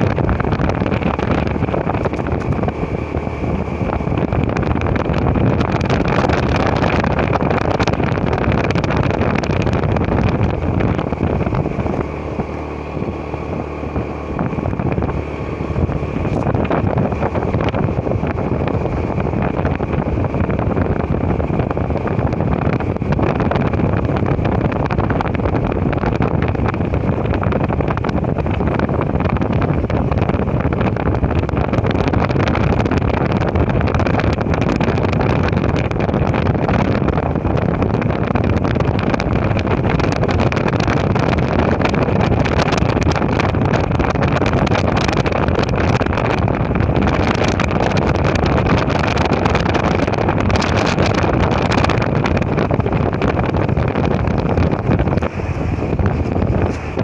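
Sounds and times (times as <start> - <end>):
motorcycle engine at road speed: 0.0 - 57.0
wind rush on microphone: 0.0 - 57.0.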